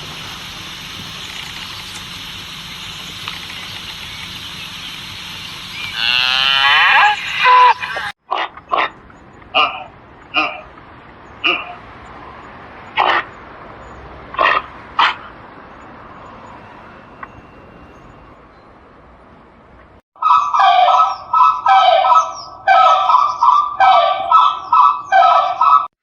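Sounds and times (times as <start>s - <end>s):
animal calls: 0.0s - 11.9s, 12.8s - 13.5s, 14.3s - 18.4s, 20.2s - 25.9s.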